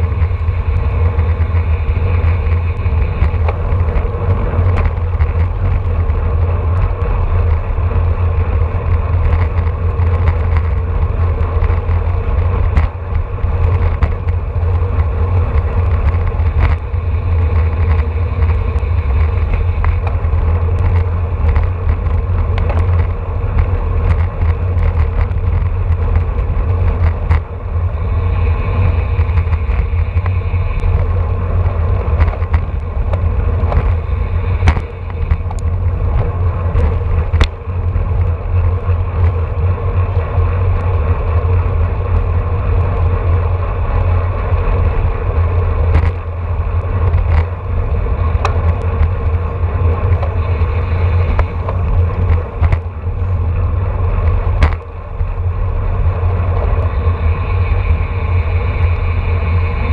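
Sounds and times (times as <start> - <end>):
steady hum: 0.0 - 59.9
wind buffeting microphone: 0.0 - 59.9.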